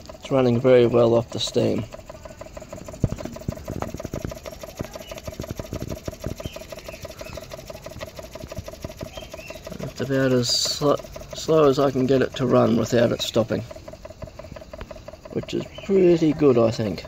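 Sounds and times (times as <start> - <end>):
model steam engine ticking: 0.0 - 17.0.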